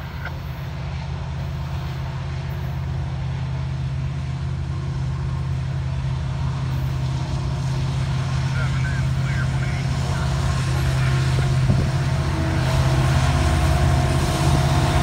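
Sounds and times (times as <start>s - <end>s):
locomotive diesel engine drone: 0.0s - 15.0s
tractor mower running: 1.4s - 15.0s.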